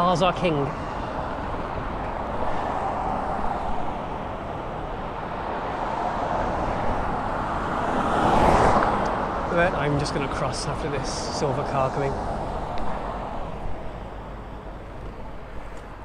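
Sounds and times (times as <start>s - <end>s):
busy road traffic: 0.0s - 16.0s
car passing close: 0.0s - 16.0s.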